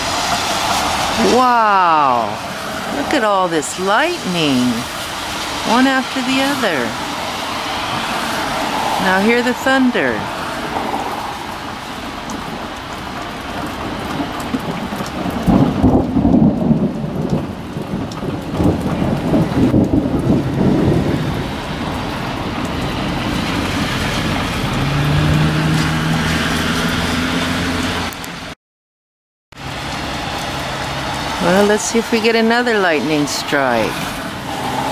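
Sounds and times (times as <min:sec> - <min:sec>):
thunder rumbling: 0:00.0 - 0:28.1
steady rain: 0:00.0 - 0:28.6, 0:29.6 - 0:34.9.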